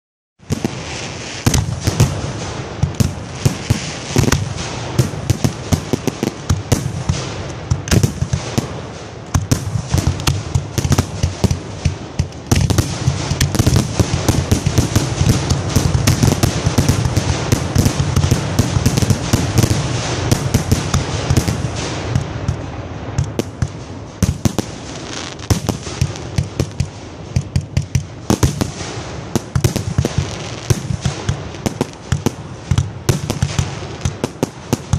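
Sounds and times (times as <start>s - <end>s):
continuous rushing noise: 0.4s - 34.9s
fireworks bangs: 0.4s - 34.9s.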